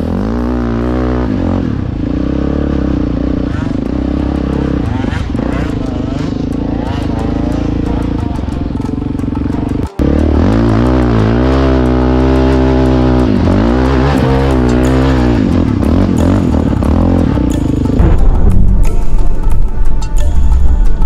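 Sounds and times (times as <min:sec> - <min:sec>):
quad engine revving: 0:00.0 - 0:18.2
background music: 0:00.0 - 0:21.0.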